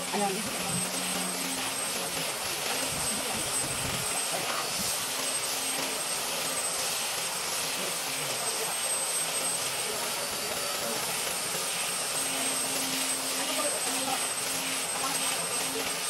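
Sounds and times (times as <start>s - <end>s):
power tool sanding wood: 0.0s - 16.0s.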